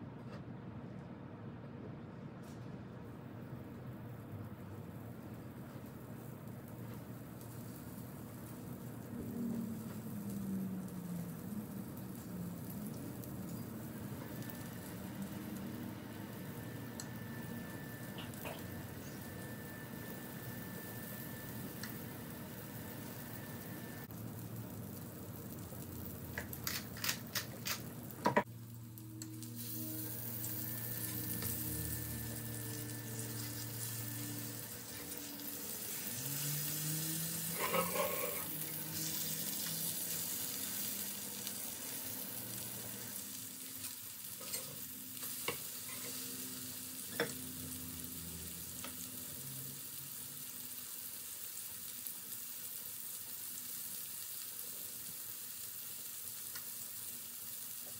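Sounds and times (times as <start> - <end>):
food sizzling in a frying pan: 4.9 - 57.9.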